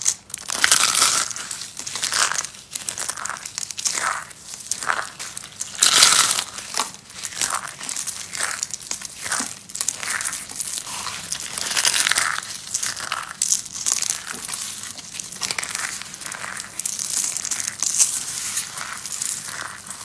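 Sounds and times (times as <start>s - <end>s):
dry soap cracking and crumbling: 0.0s - 20.0s.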